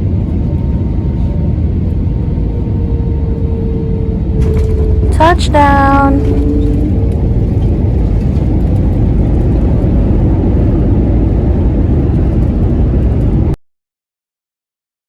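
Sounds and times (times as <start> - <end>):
engines and wheels roaring on runway: 0.0 - 13.6.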